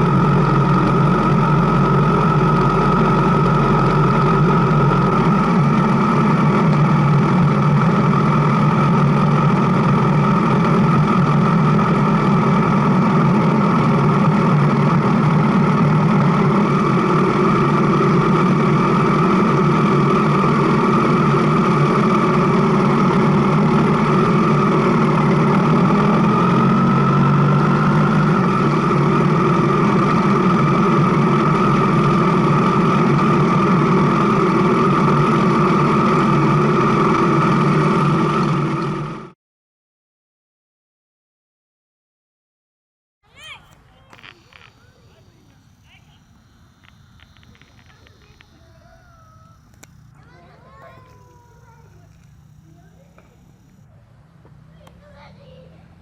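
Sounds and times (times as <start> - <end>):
motorcycle engine running: 0.0 - 39.4, 43.3 - 56.0.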